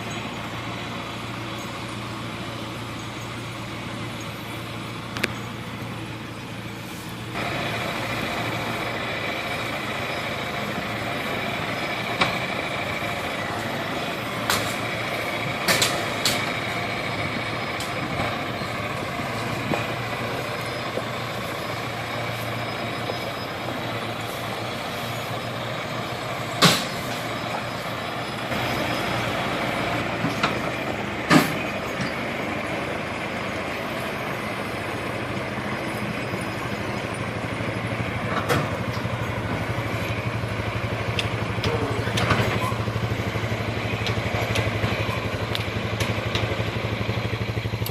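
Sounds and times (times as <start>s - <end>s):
heavy truck engine running: 0.0s - 47.9s.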